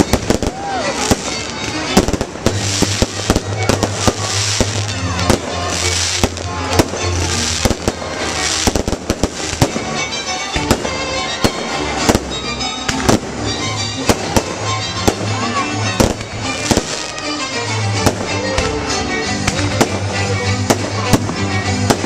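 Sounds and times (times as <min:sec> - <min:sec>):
fireworks crackling: 0:00.0 - 0:22.0
music: 0:00.0 - 0:22.0.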